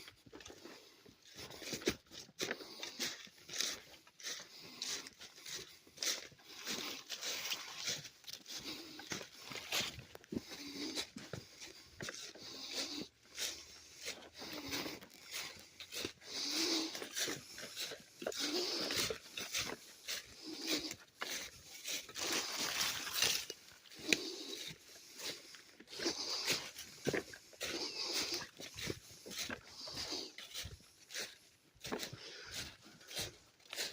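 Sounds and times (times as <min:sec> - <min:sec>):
crunching footsteps: 0:00.0 - 0:33.9
heavy hoarse breathing: 0:00.0 - 0:33.9.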